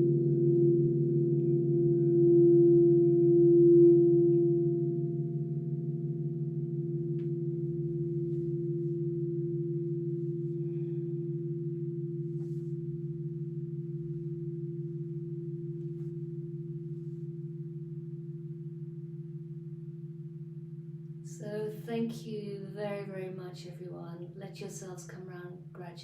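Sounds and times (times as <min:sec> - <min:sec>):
crystal singing bowls ringing: 0:00.0 - 0:26.0.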